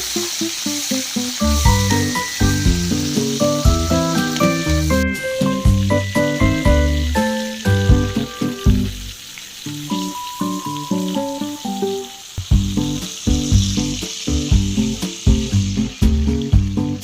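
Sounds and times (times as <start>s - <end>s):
background music: 0.0s - 17.0s
food sizzling in hot oil: 0.0s - 17.0s.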